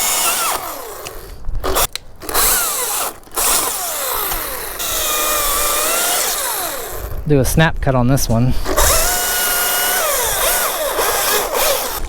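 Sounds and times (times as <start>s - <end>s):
chainsaw cutting a limb: 0.0s - 7.2s, 8.6s - 12.0s.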